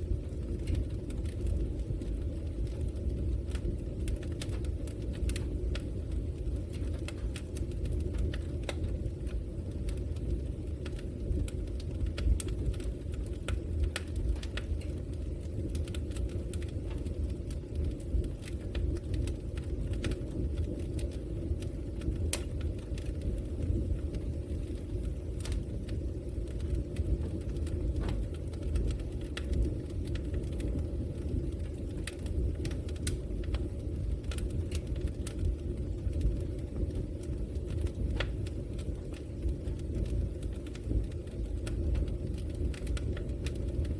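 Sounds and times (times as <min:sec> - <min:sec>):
flames rumbling: 0:00.0 - 0:43.9
wood crackling and popping: 0:00.0 - 0:43.9.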